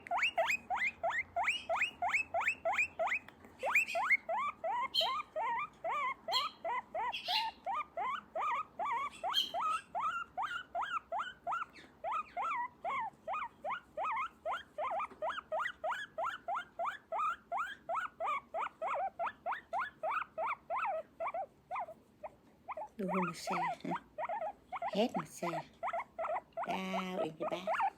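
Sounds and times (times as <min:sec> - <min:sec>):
small pet squeaking: 0:00.0 - 0:27.9.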